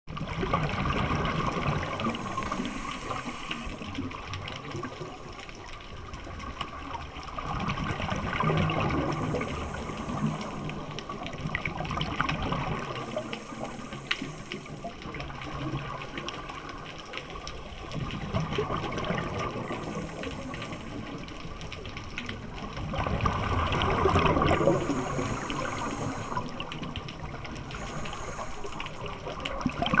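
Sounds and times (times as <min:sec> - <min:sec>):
regulator bubbles underwater: 0:00.1 - 0:30.0.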